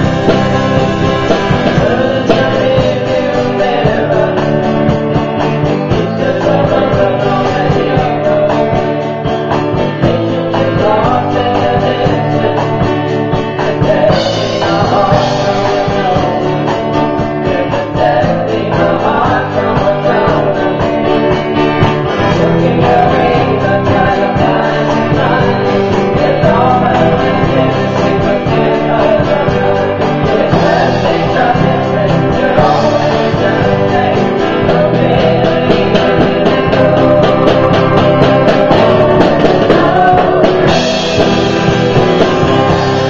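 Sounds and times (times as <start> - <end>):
drum kit cymbal beat: 0.0 - 43.0
electric guitar: 0.0 - 43.0
electric keyboard: 0.0 - 43.0.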